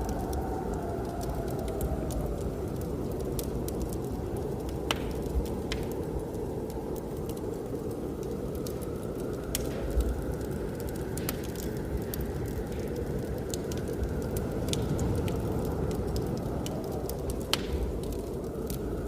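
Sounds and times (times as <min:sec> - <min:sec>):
blizzard wind rushing: 0:00.0 - 0:19.0
wood fire crackling and popping: 0:00.0 - 0:19.0.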